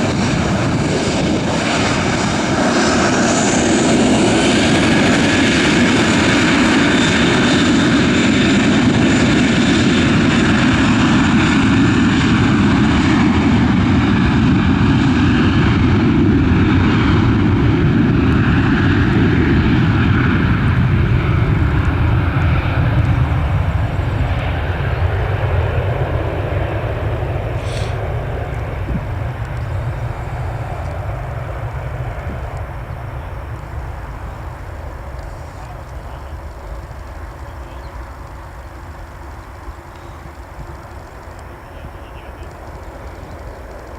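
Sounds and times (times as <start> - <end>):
jet engines roaring at takeoff: 0.0 - 43.9.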